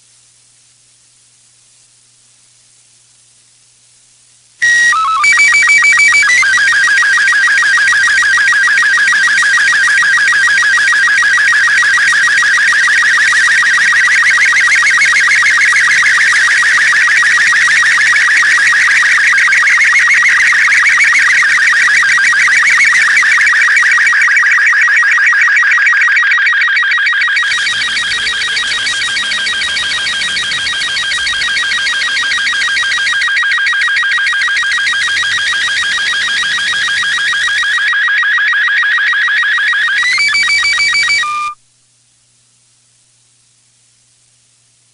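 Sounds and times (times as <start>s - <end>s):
fast electronic warble: 4.6s - 41.6s
short steady radio tones: 4.6s - 41.6s.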